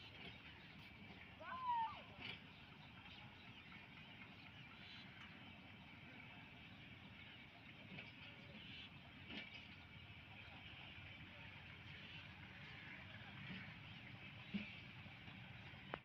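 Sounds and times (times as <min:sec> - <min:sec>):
low rumble of moving train: 0:00.0 - 0:16.0.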